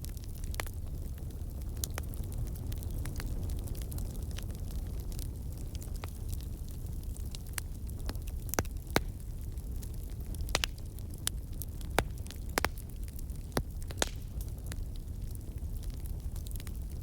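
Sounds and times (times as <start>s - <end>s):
fire low rumble: 0.0s - 17.0s
wood fire popping and snapping: 0.0s - 17.0s.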